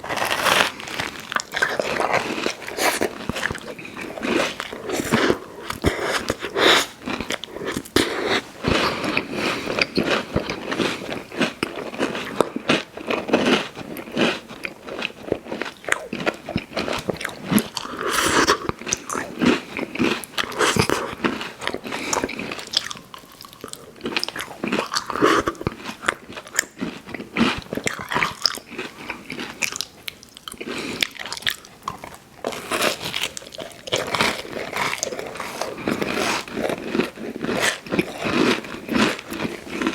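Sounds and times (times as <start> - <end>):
crunchy bites and chewing: 0.0 - 39.9.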